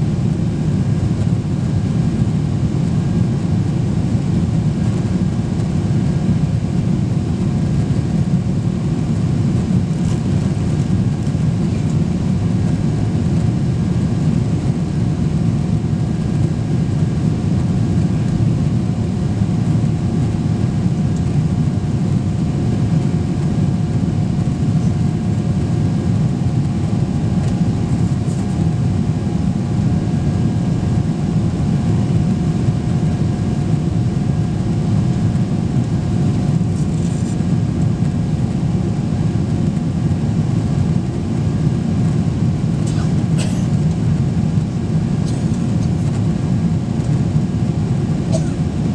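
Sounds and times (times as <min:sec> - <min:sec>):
faint steady whine: 0:00.0 - 0:48.9
jet cabin engine rumble: 0:00.0 - 0:48.9.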